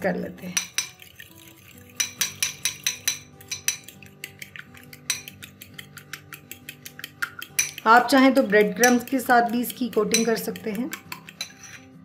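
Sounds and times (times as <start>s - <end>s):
fork clicking against bowl: 0.6s - 11.9s.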